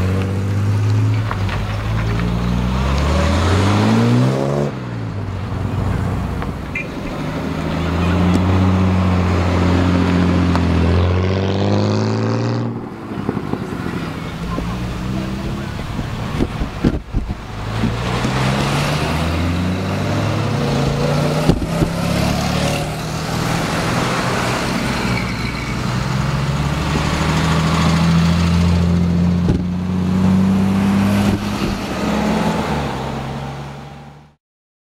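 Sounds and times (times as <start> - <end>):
car accelerating away: 0.0 - 34.2
car engines passing: 0.0 - 34.4.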